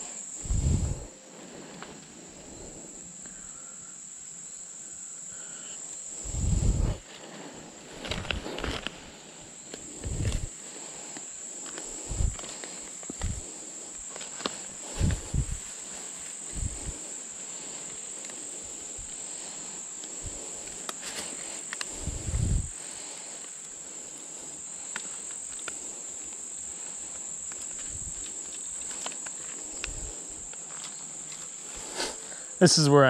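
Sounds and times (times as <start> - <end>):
insects calling: 0.0 - 33.0.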